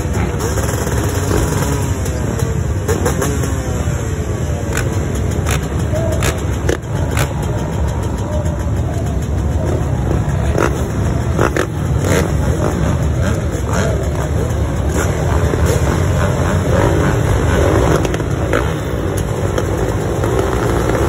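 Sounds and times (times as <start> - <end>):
dirt bike engines rumbling: 0.0 - 21.0.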